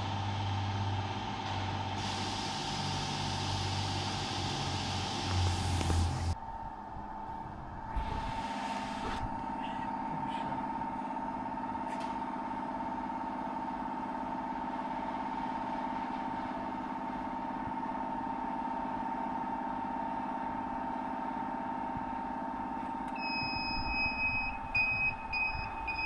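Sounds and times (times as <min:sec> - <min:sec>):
machine electrical hum: 0:00.0 - 0:26.0.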